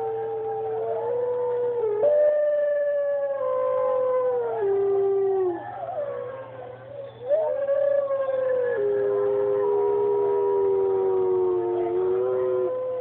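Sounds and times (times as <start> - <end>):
drawn-out howling: 0.0 - 13.0.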